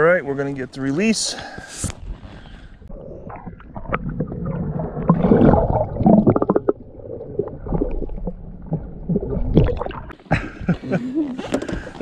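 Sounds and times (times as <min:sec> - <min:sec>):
underwater gurgling and sloshing: 0:01.9 - 0:12.0.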